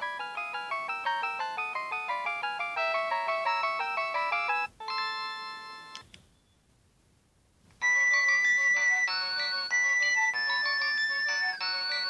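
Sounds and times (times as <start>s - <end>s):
polyphonic ringtone from phone speaker: 0.0s - 6.0s, 7.8s - 12.0s.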